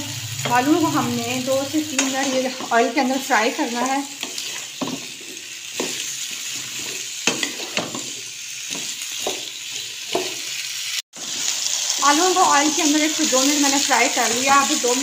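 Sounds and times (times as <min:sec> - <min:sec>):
potatoes sizzling in hot oil: 0:00.0 - 0:15.0.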